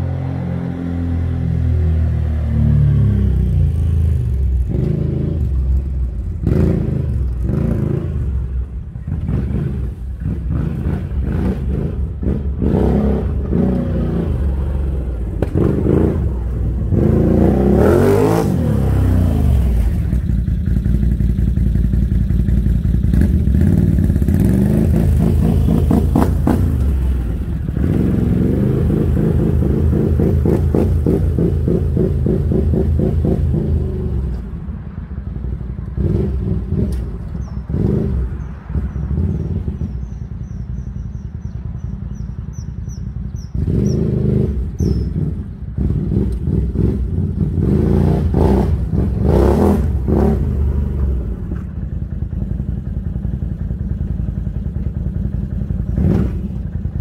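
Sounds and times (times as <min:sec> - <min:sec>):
atv engine revving: 0:00.0 - 0:34.4, 0:35.9 - 0:57.0.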